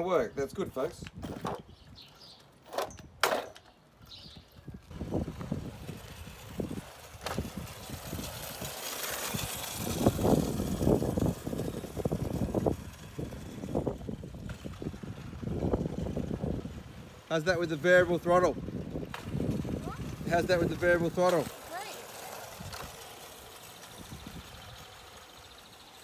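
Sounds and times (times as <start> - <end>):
electric scooter rolling on asphalt: 0.0 - 26.0
wind buffeting microphone: 0.2 - 2.1, 4.0 - 23.2, 23.8 - 25.2.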